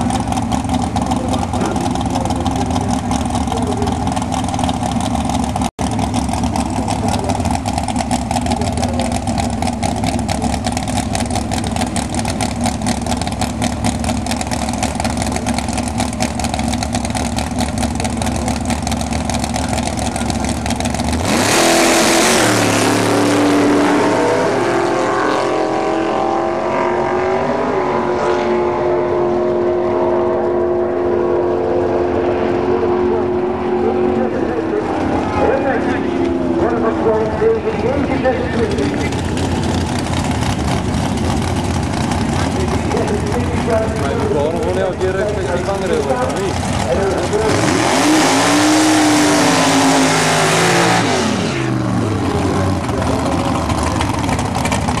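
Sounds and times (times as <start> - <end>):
motor engines running and revving: 0.0 - 55.0.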